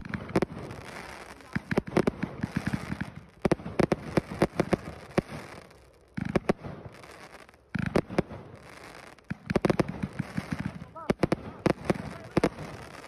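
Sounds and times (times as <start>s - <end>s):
firework bursting reports: 0.0s - 13.0s.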